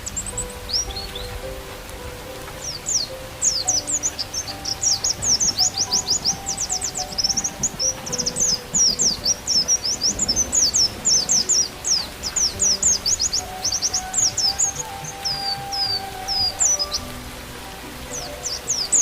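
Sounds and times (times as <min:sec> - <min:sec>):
bird chirping song: 0:00.0 - 0:19.0
slow flute melody: 0:00.0 - 0:19.0.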